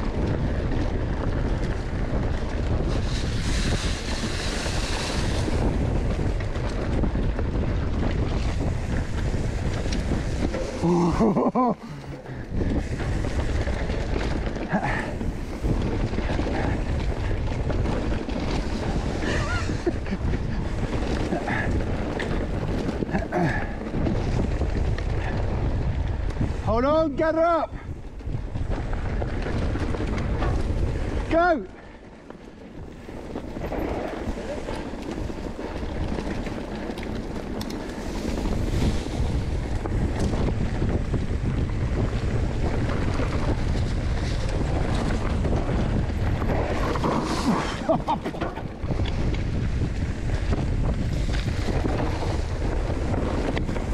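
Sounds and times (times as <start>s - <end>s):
bike tyres clicking and rattling: 0.0s - 53.9s
wind rushing on microphone: 0.0s - 53.9s.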